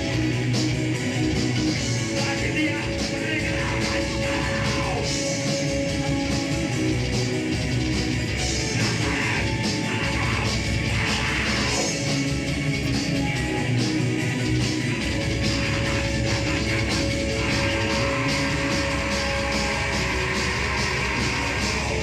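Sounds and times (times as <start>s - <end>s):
electric guitar: 0.0s - 22.0s
live heavy rock band: 0.0s - 22.0s.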